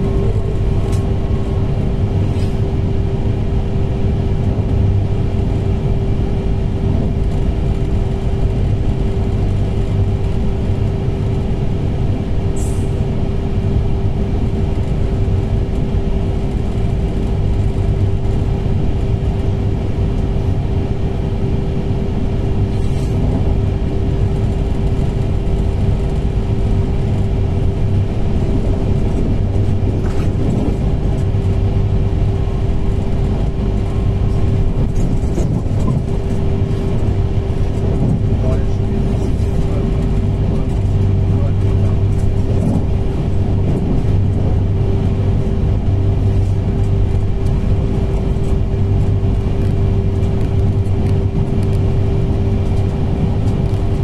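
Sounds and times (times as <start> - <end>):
steady hum: 0.0 - 54.0
train wheels rumbling on rails: 0.0 - 54.0.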